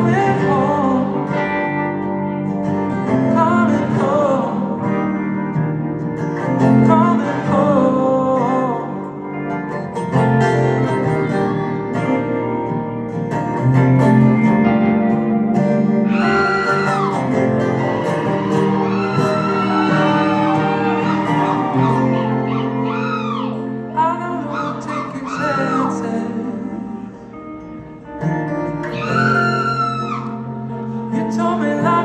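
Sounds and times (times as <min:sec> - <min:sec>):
guitar melody with bending notes: 0:00.0 - 0:32.0
live guitar music: 0:00.0 - 0:32.0.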